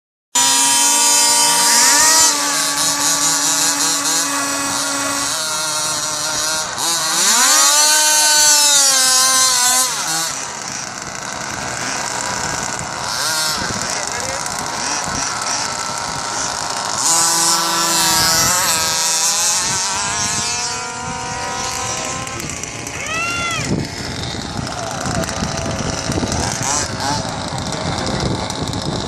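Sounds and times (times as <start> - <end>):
small two-stroke engines revving: 0.4 - 29.0.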